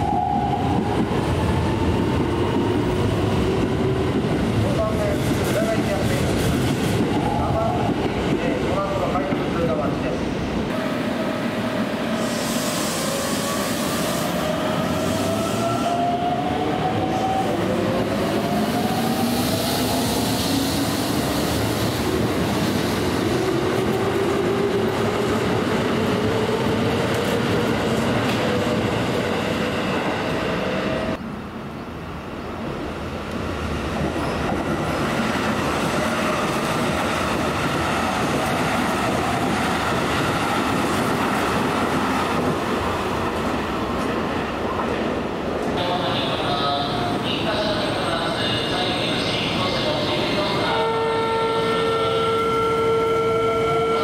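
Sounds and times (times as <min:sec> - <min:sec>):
train passing through station: 0:00.0 - 0:54.0.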